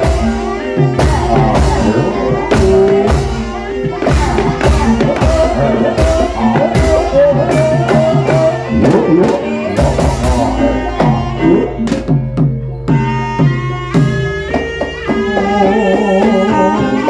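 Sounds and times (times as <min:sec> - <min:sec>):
hand drum beating rhythm: 0:00.0 - 0:17.0.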